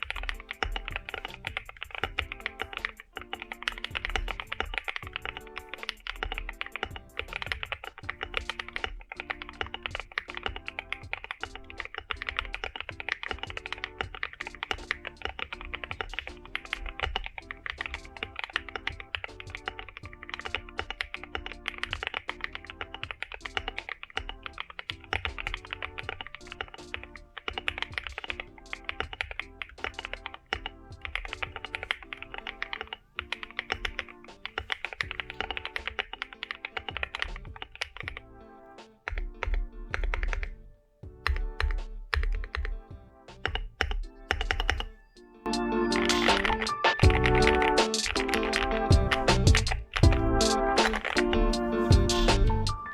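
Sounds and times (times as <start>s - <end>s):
fast typing on mechanical keyboard: 0.0s - 38.3s, 39.1s - 40.6s, 41.2s - 45.0s, 45.9s - 52.7s
background music: 0.0s - 52.9s.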